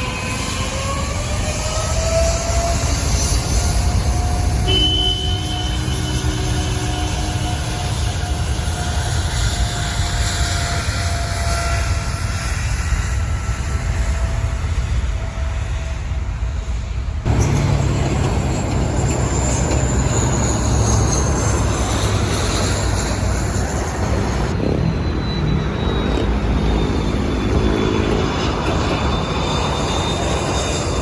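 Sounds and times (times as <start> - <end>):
high engine whine: 0.0 - 31.0
jet engines rumbling: 0.0 - 31.0.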